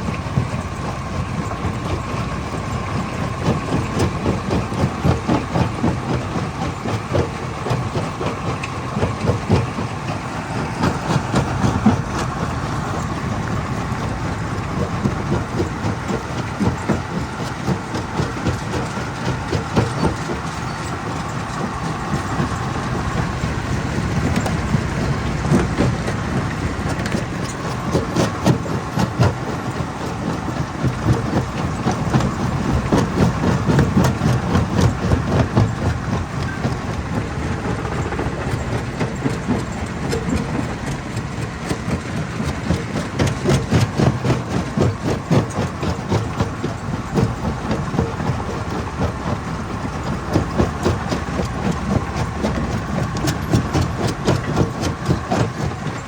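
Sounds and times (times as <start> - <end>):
hammer crusher rumbling: 0.0 - 56.0.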